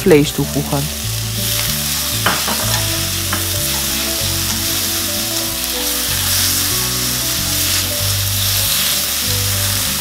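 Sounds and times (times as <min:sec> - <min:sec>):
background music with low notes: 0:00.0 - 0:10.0
food sizzling in hot oil: 0:00.0 - 0:10.0.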